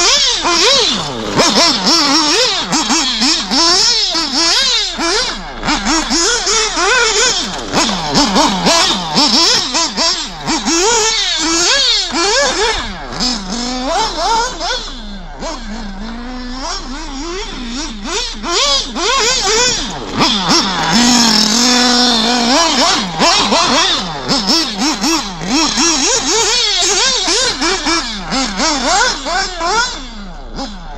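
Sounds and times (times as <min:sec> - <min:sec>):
rc buggy engine revving: 0:00.0 - 0:30.9.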